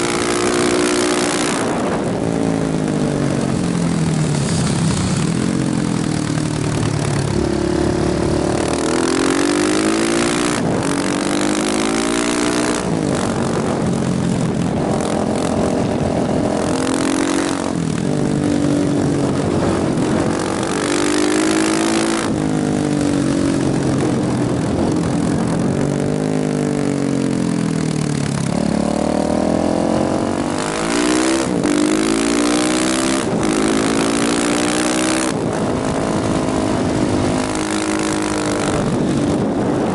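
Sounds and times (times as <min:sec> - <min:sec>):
motorcycle engine shifting gears: 0:00.0 - 0:39.9
wind noise: 0:00.0 - 0:39.9.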